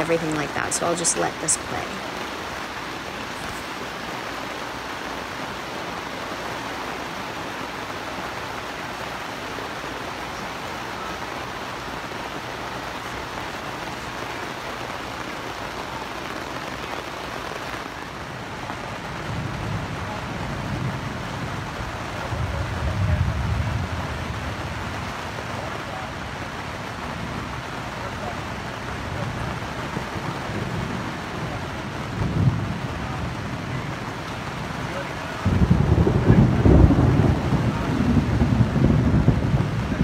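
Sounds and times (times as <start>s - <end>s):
rain on a canvas roof: 0.0s - 40.0s
thunder rumbling: 0.0s - 40.0s.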